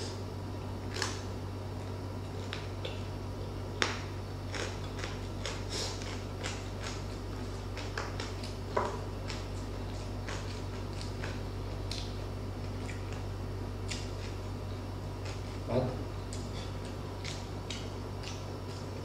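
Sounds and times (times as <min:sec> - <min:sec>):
low electrical hum: 0:00.0 - 0:19.0
chewing with mouth clicks: 0:02.2 - 0:03.1, 0:03.7 - 0:19.0.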